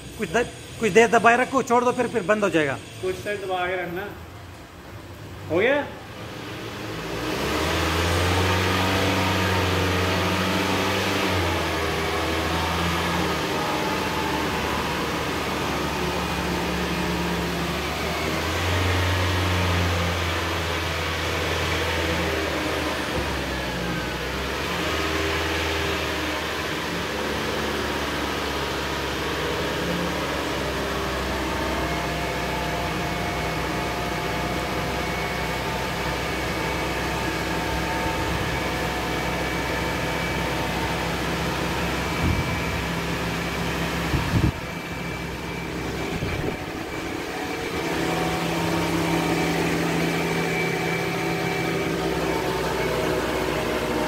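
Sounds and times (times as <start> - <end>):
engine and drivetrain whine: 0.0 - 54.0.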